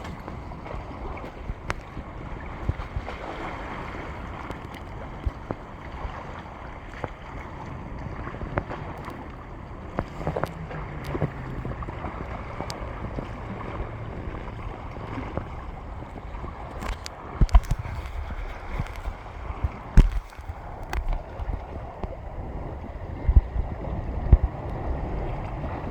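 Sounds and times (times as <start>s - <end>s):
low steady hum: 0.0s - 25.9s
sea waves washing on shore: 0.0s - 25.9s
wind on the microphone: 0.0s - 25.9s.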